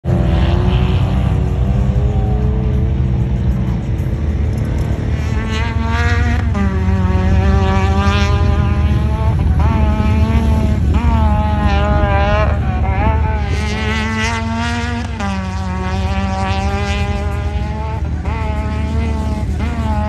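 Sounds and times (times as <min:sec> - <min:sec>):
engines revving: 0:00.0 - 0:20.0
low engine drone: 0:00.0 - 0:20.0.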